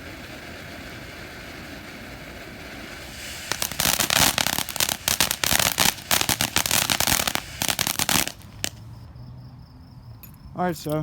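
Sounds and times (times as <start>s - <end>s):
firework fountain crackling: 0.0s - 8.9s.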